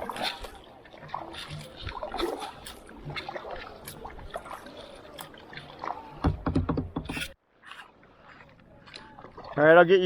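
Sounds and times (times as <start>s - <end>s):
paddle splashing water: 0.0s - 10.0s.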